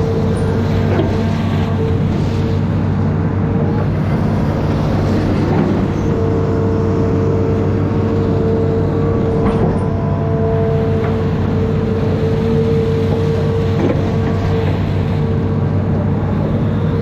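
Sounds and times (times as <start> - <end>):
excavator engine droning: 0.0 - 17.0
steady whine: 0.0 - 17.0.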